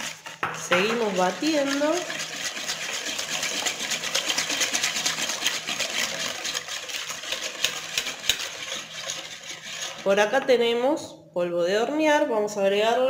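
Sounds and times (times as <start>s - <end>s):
whisk clicking against bowl: 0.0s - 10.5s.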